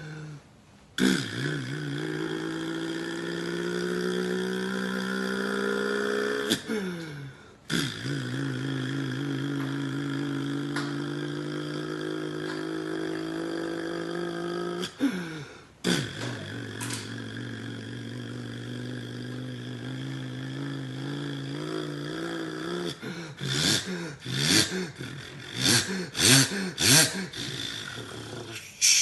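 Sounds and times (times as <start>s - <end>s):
man imitating engine with voice: 1.0s - 29.0s.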